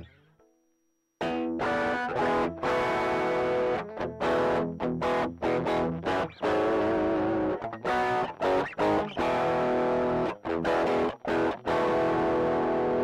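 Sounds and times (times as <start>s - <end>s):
overdriven electric guitar chords: 0.0s - 13.0s.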